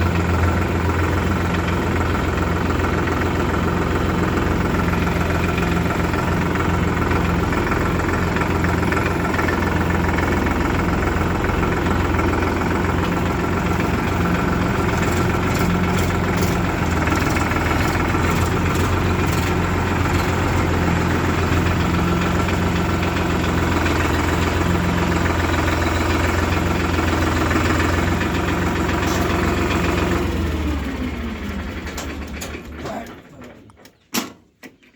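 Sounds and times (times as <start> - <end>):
diesel engine idling: 0.0 - 34.1.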